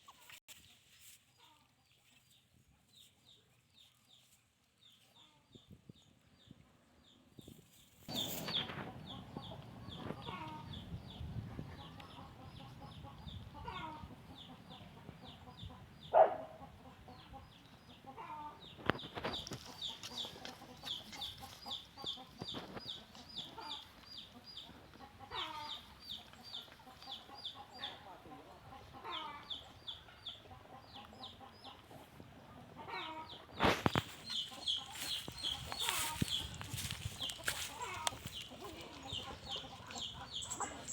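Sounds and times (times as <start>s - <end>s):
chickens clucking: 8.1s - 40.9s.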